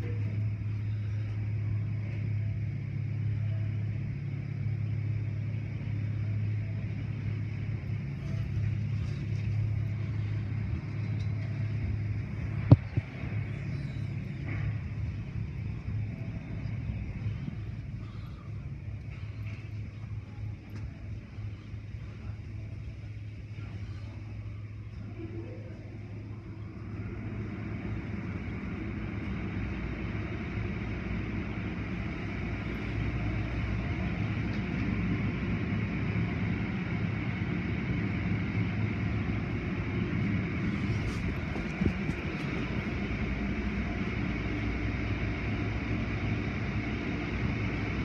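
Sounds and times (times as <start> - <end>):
low machinery hum: 0.0 - 48.0.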